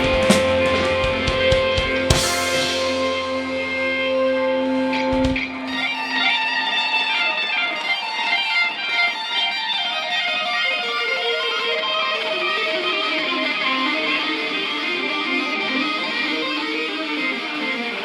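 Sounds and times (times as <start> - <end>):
electric guitar melody: 0.0 - 18.0
live rock band playing: 0.0 - 18.0.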